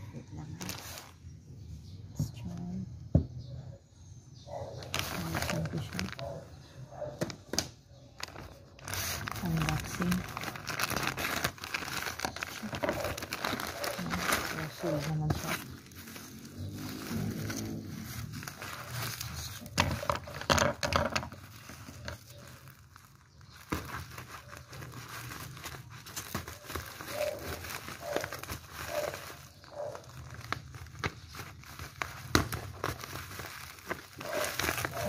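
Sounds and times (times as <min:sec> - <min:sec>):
packaging crinkling and tearing: 0:00.6 - 0:01.3, 0:04.8 - 0:35.0.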